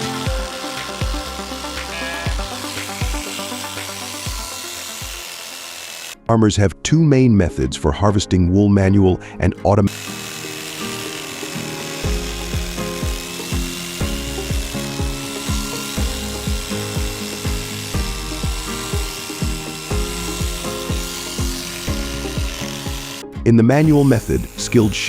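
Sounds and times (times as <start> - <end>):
background music with steady beat: 0.0 - 6.2, 8.8 - 25.0
electric sheep shears buzzing: 0.0 - 6.2, 9.8 - 25.0.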